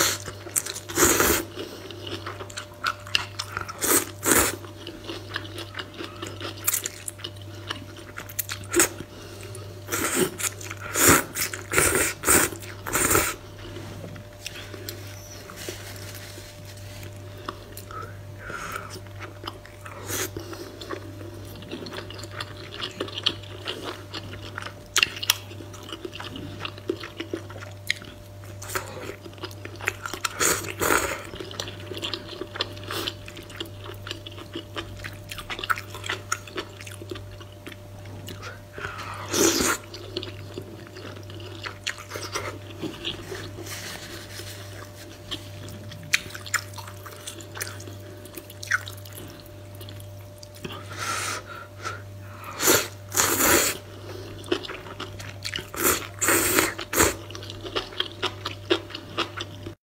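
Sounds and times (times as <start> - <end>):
person chewing noodle soup: 0.0 - 15.5, 16.1 - 59.8
steady low hum: 0.0 - 59.8.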